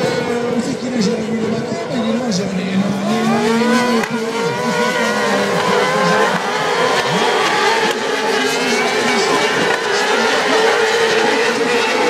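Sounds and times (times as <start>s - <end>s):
racing engines revving: 0.0s - 12.0s.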